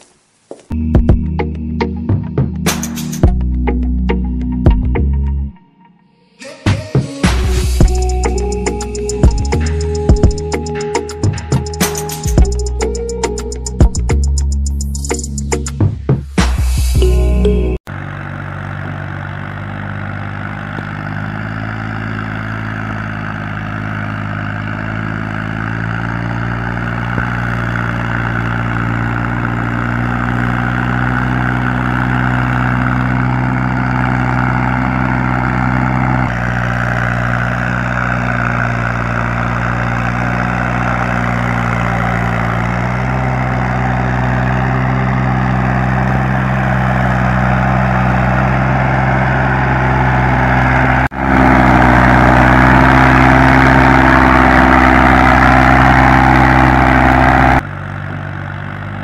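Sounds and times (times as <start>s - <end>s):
tractor engine running: 7.2s - 59.0s.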